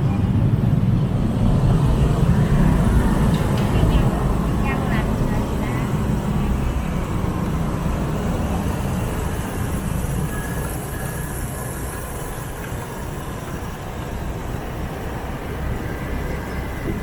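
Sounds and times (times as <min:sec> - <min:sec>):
motorbike engine and road noise: 0:00.0 - 0:17.0.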